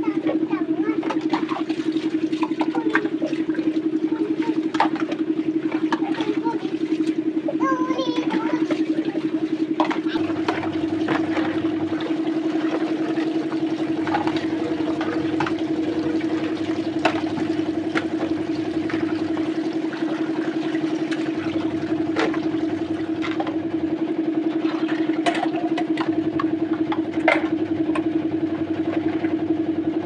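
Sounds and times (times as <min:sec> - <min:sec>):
small motor humming: 0:00.0 - 0:30.0.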